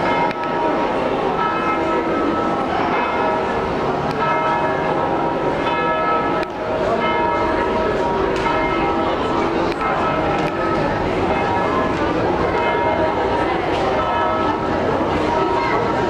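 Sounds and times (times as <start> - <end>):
church bells pealing: 0.0 - 16.0.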